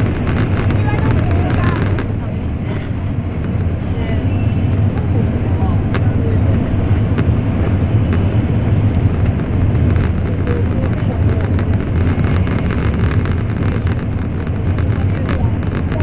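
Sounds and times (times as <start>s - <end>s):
train rumble inside cabin: 0.0s - 16.0s.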